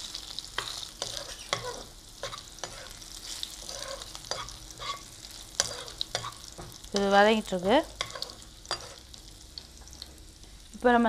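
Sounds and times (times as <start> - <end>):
spatula stirring and scraping pan: 0.0 - 10.0
garlic sizzling in hot oil: 0.0 - 11.0.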